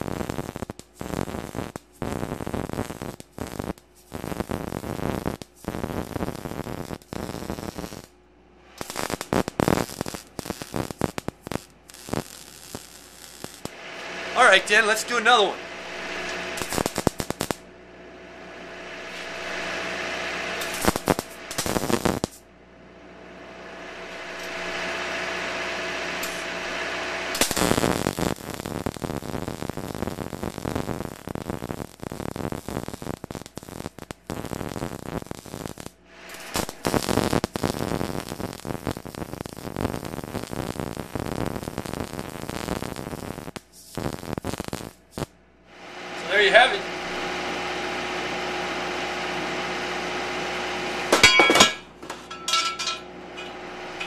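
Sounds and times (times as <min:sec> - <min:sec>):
steady hum: 0:00.0 - 0:54.0
welder arc crackling: 0:00.0 - 0:54.0.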